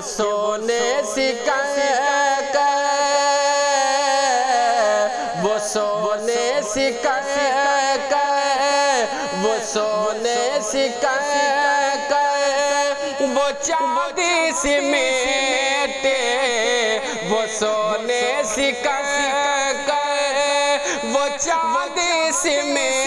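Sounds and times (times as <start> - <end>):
person singing with vibrato: 0.0 - 23.0.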